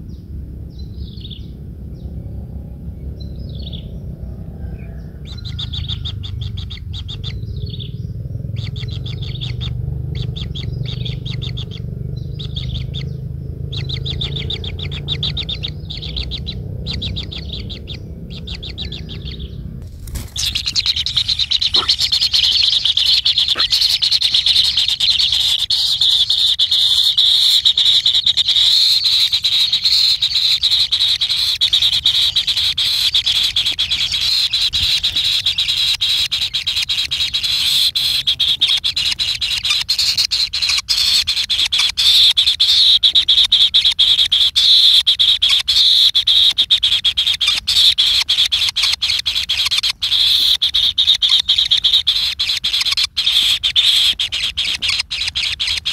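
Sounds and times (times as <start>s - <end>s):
chorus of high-pitched animal calls: 0.8s - 55.9s.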